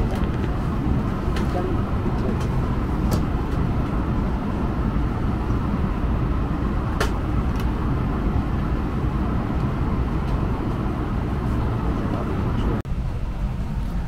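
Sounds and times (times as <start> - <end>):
low rumble in aircraft cabin: 0.0 - 14.0.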